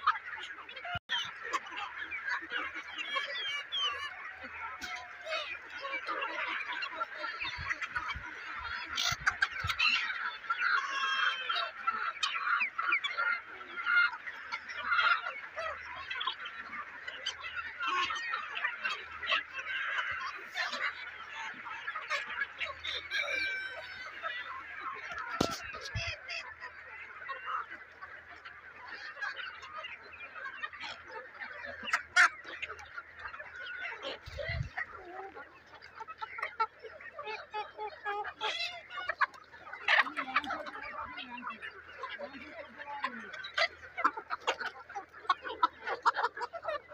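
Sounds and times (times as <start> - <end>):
flock of chickens clucking: 0.0 - 46.9.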